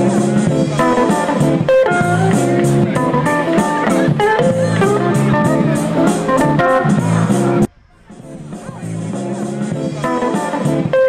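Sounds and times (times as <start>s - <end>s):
blues guitar melody: 0.0s - 11.0s
steady bass: 0.0s - 11.0s.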